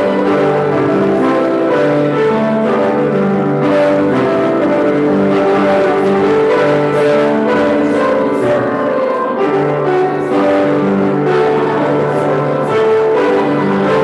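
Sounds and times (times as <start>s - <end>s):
hymn played on piano: 0.0s - 14.0s.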